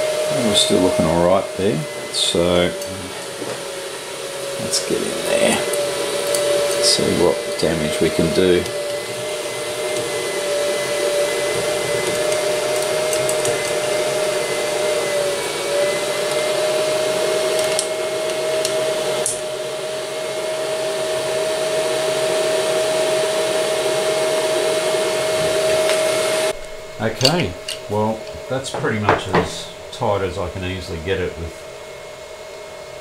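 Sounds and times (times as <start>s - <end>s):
electric fan whining: 0.0s - 33.0s.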